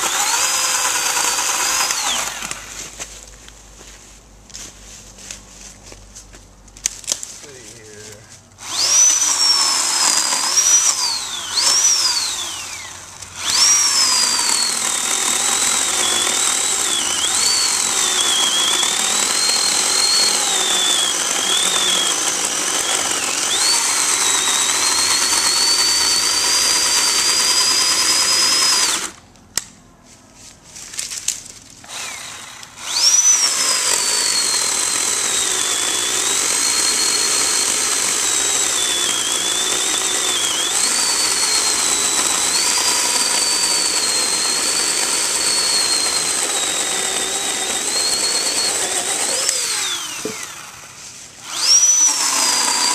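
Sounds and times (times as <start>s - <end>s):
electric chainsaw cutting log: 0.0s - 3.0s, 8.6s - 29.2s, 31.8s - 52.9s.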